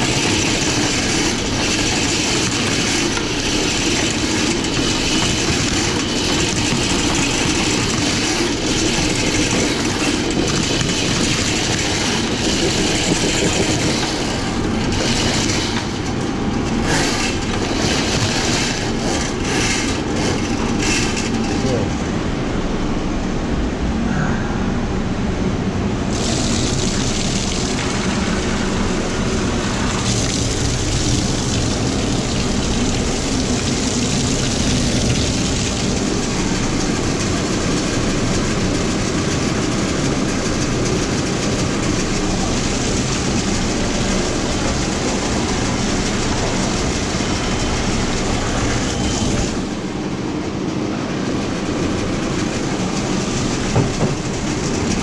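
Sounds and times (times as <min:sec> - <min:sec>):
drain-cleaning machine motor humming: 0:00.0 - 0:23.0, 0:25.6 - 0:55.0.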